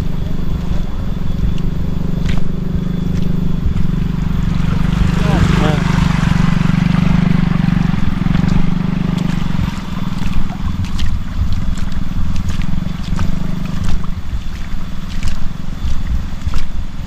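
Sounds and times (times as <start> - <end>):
small engine humming: 0.0 - 17.0.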